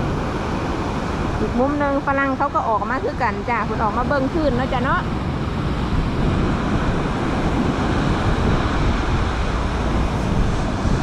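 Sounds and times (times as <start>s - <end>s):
sea waves breaking on shore: 0.0s - 11.0s
wind buffeting microphone: 0.0s - 11.0s.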